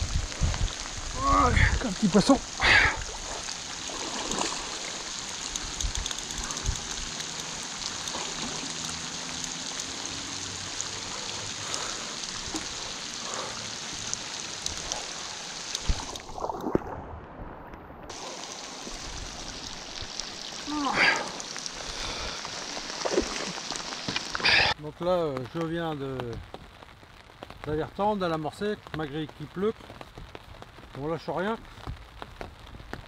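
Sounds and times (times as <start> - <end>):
rain falling on a lake: 0.0 - 33.0.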